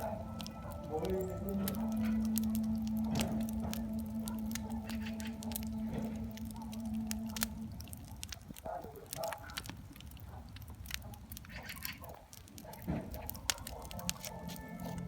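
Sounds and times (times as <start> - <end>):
campfire crackling and popping: 0.0 - 15.0
low rumble of burning: 0.0 - 15.0.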